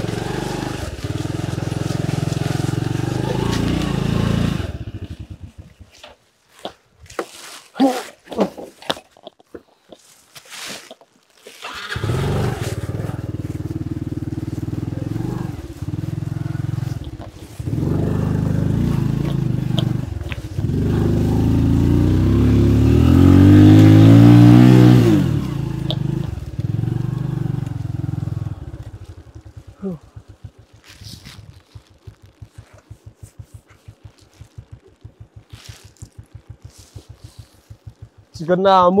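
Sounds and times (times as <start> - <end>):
small motorbike engine revving: 0.0 - 6.0, 11.6 - 39.0.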